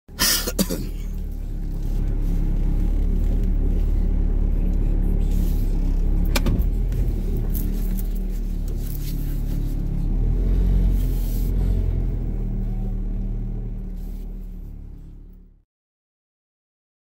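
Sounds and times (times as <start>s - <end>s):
car engine and road rumble: 0.1s - 15.6s.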